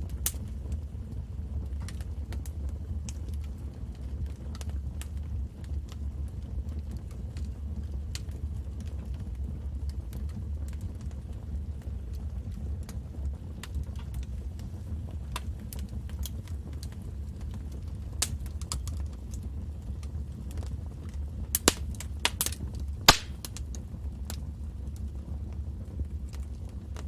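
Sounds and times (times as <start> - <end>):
fire popping and snapping: 0.0 - 27.0
low fire rumble: 0.0 - 27.0.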